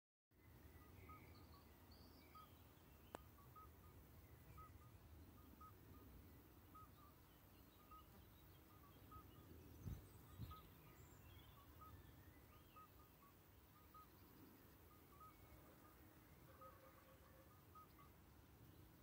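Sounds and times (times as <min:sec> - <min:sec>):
toads calling with piping notes: 0:00.8 - 0:18.3.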